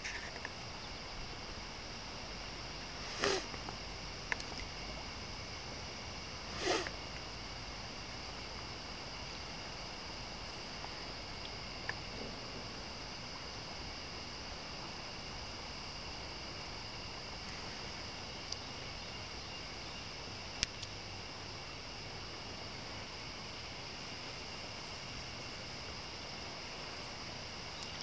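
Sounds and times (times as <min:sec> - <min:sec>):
chorus of evening insects: 0:00.0 - 0:28.0.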